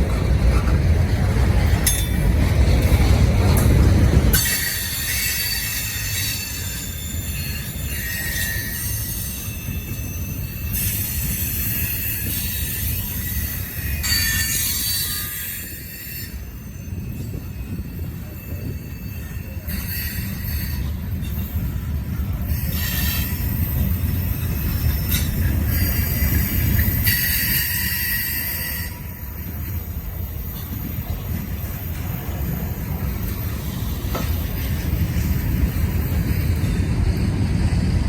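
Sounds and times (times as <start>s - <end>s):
low rumble of train cars: 0.0s - 38.0s
train wheels squealing: 0.0s - 38.0s.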